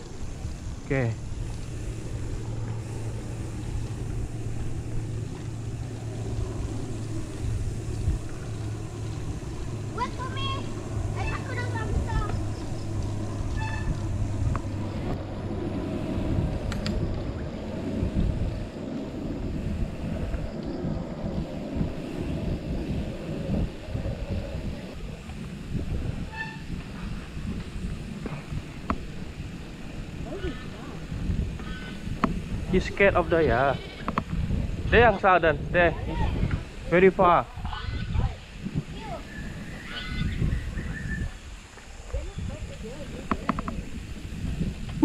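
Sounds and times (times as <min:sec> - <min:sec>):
bicycle tyres rolling on dirt: 0:00.0 - 0:45.0
wind buffeting microphone: 0:00.0 - 0:45.0.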